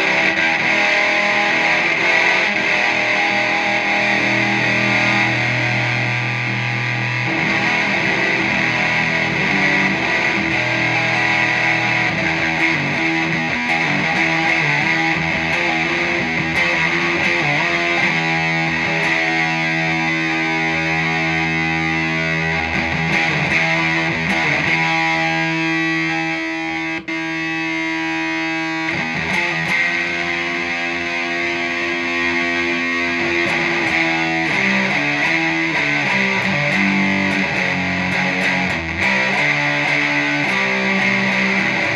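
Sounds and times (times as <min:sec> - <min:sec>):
fuzzed electric guitar chords: 0:00.0 - 0:41.9.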